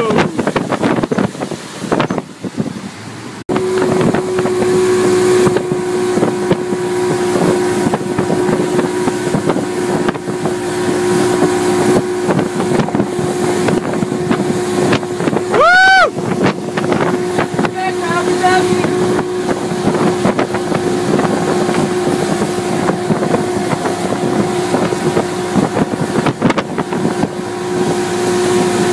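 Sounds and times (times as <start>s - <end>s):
outboard engine whine: 0.0s - 28.9s
wind and water noise: 0.0s - 28.9s.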